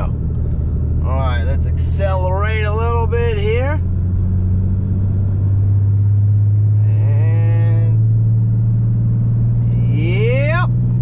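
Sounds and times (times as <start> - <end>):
diesel exhaust drone in cab: 0.0 - 11.0.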